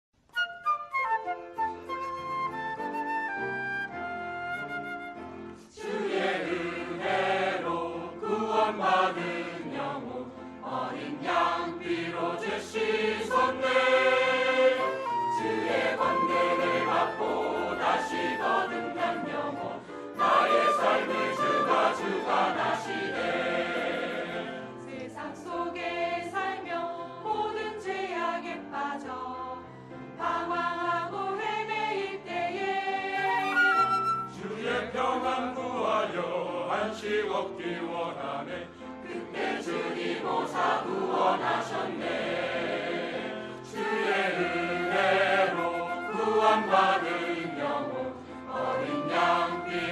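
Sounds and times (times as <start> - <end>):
choir singing a hymn: 3.0 - 49.9.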